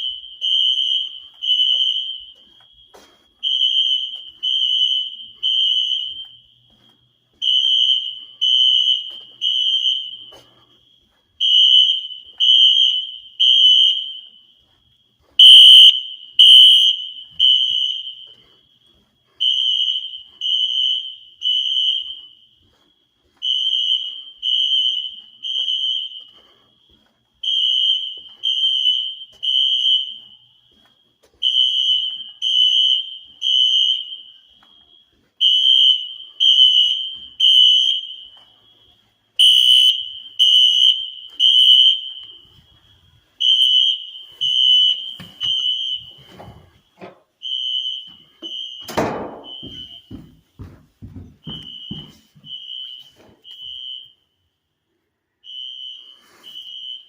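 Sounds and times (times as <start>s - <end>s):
fire alarm horns: 0.0s - 57.0s.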